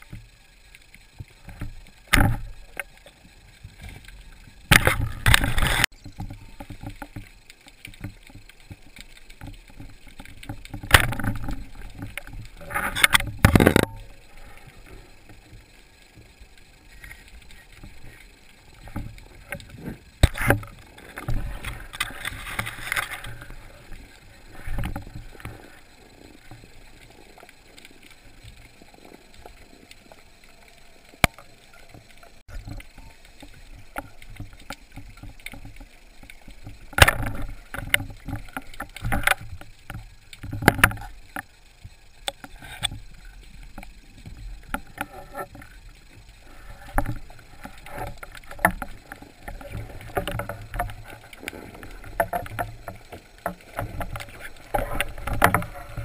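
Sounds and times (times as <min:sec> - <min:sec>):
water swishing underwater: 0:00.0 - 0:56.0.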